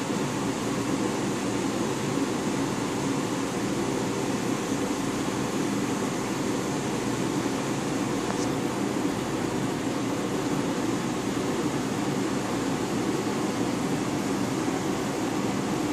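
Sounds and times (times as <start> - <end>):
aquarium pumps humming: 0.0 - 15.9.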